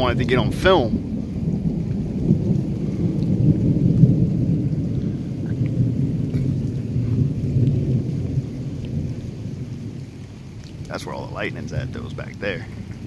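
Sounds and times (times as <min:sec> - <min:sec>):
rolling thunder: 0:00.0 - 0:13.0.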